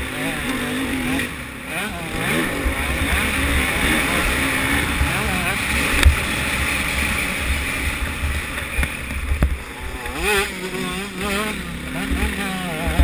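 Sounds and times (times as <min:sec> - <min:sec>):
motocross engine running: 0:00.0 - 0:13.0.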